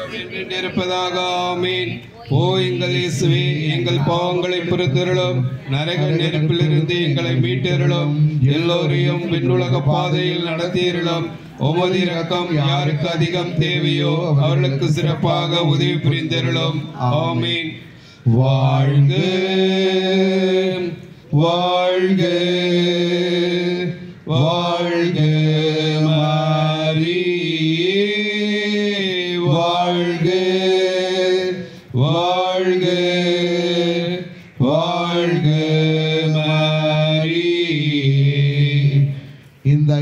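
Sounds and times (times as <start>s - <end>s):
person chanting prayers: 0.0s - 40.0s.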